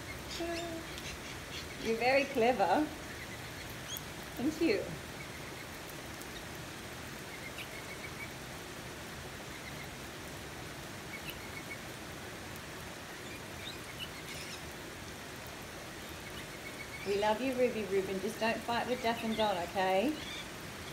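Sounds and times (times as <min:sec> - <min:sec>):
rain on wooden deck: 0:00.0 - 0:20.9.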